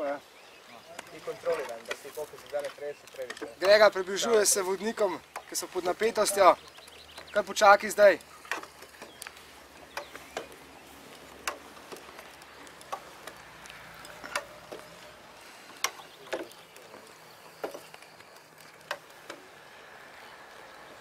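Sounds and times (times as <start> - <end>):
pole climbers clacking on wood: 0.8 - 19.6.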